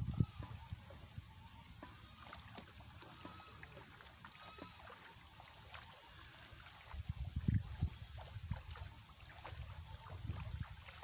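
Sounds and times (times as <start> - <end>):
shallow water sloshing and dripping: 0.0 - 11.0.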